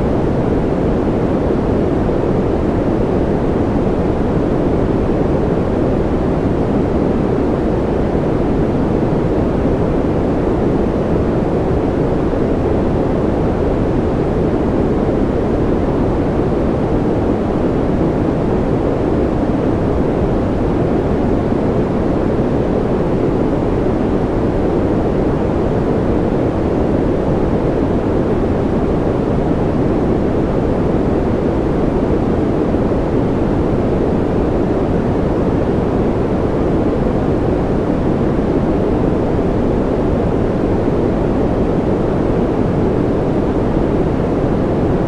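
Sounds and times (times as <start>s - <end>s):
white noise hiss: 0.0s - 45.0s.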